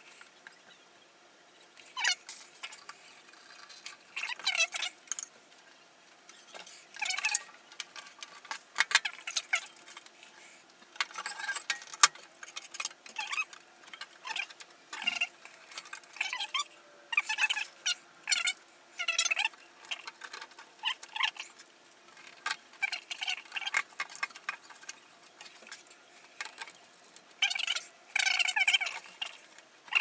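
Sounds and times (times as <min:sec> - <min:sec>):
small metal parts clicking and rattling: 0:01.8 - 0:30.0.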